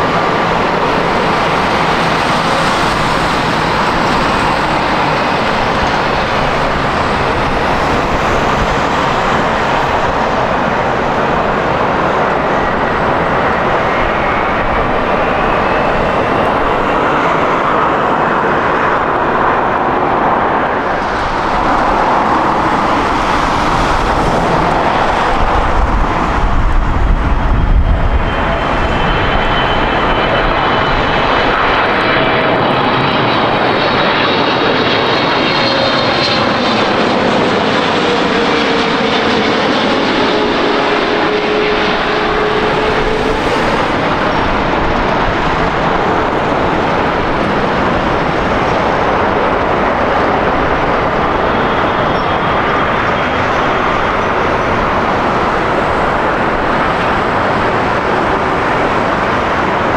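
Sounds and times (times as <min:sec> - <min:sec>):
jet airliner engines passing: 0:00.0 - 0:59.9.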